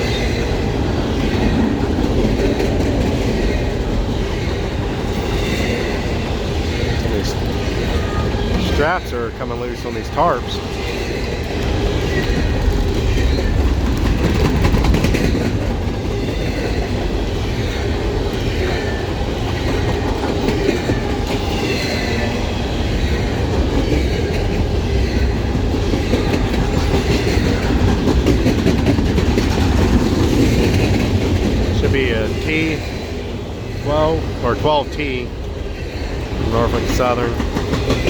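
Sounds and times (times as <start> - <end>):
steel wheels on rails: 0.0 - 38.0.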